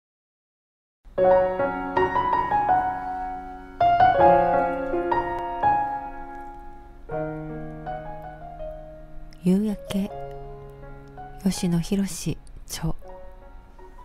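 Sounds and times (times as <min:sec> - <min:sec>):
slow solo piano: 0:01.1 - 0:14.0.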